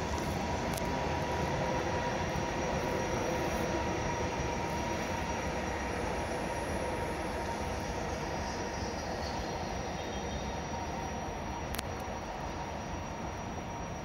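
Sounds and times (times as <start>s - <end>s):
faint steady whine: 0.0s - 14.0s
train wheels rumbling on rail: 0.0s - 14.0s.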